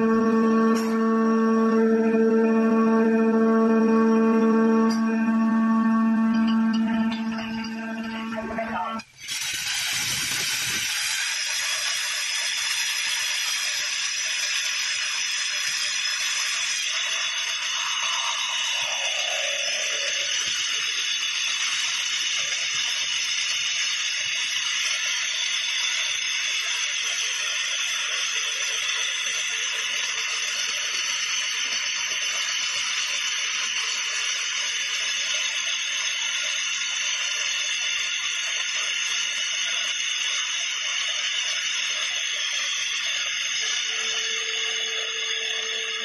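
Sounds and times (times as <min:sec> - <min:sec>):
rock drill drilling: 0:07.4 - 0:46.0.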